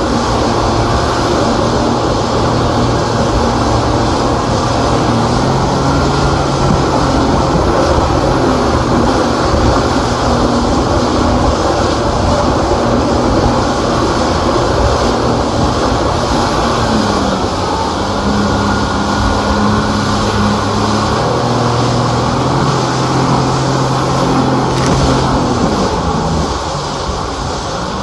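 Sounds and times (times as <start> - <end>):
motor humming: 0.0 - 27.8
loud rushing noise: 0.0 - 28.0.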